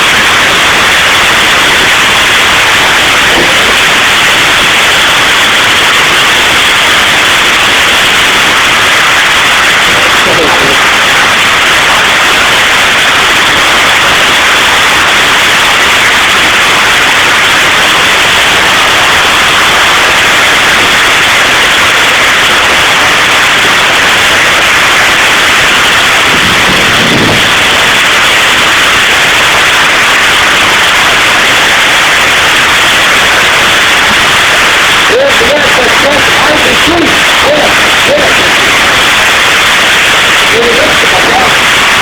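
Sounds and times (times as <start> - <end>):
hail and heavy rain pelting: 0.0 - 42.0.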